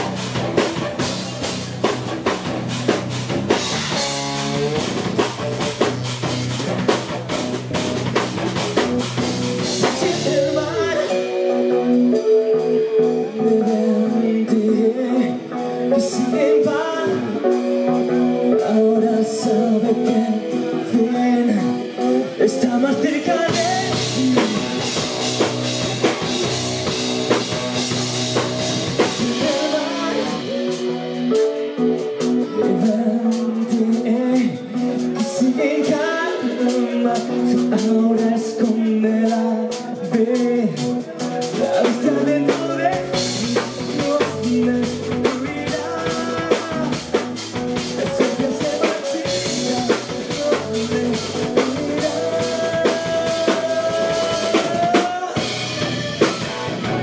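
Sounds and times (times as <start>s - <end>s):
bass guitar: 0.0s - 57.0s
drum kit: 0.0s - 57.0s
keyboards: 0.0s - 57.0s
man singing: 8.1s - 57.0s.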